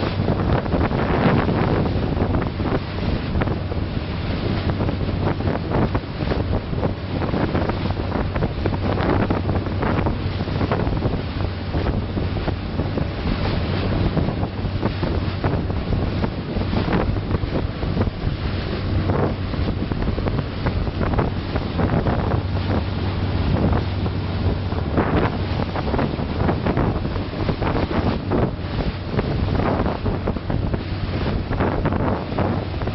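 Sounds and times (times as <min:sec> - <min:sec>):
boat engine hum: 0:00.0 - 0:32.9
water rushing past hull: 0:00.0 - 0:32.9
wind buffeting microphone: 0:00.0 - 0:32.9.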